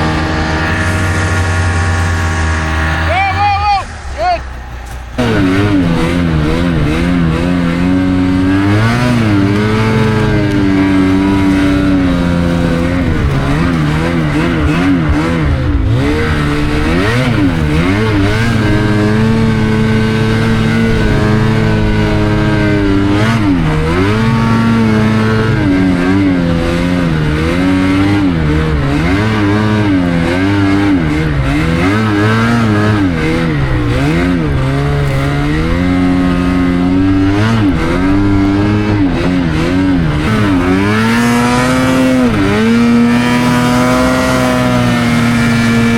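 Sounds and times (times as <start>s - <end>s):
snowmobile engine revving: 0.0s - 45.9s.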